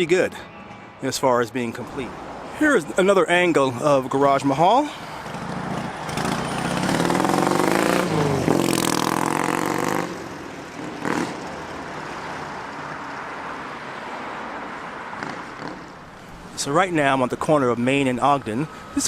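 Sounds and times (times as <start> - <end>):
traffic noise: 0.0 - 19.0
vehicle engine passing: 0.0 - 19.0.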